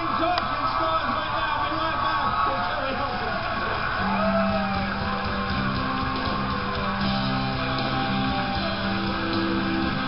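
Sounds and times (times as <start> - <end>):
guitar band music on television: 0.0 - 10.0.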